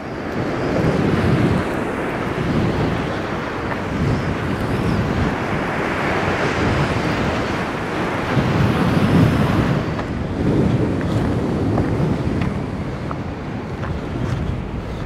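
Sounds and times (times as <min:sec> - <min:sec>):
strong wind buffeting microphone: 0:00.0 - 0:15.0
waves breaking over rocks: 0:00.0 - 0:15.0.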